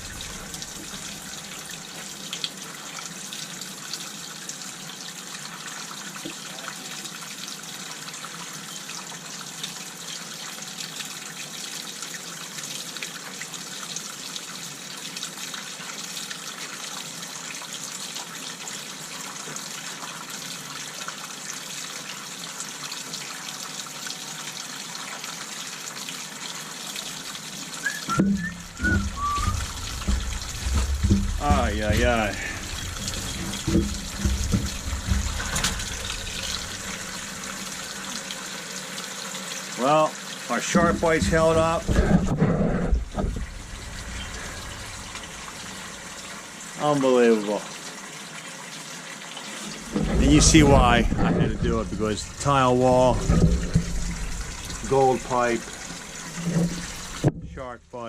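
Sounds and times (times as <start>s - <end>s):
water running from a tap: 0.0s - 58.0s.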